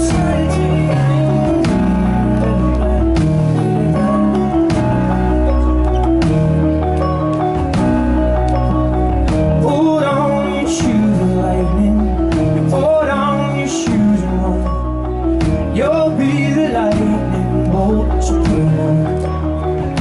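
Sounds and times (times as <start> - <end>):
man singing: 0.0 - 5.8, 8.7 - 20.0
acoustic guitar: 0.0 - 20.0
held low chords: 0.0 - 20.0.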